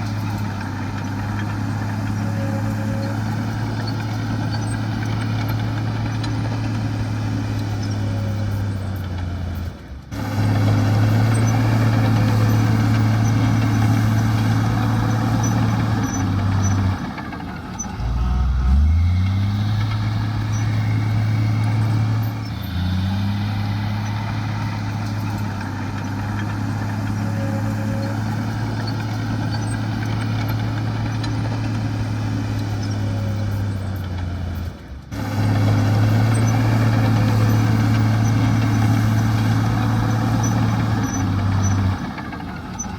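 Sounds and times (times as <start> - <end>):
heavy diesel machinery running: 0.0 - 42.9.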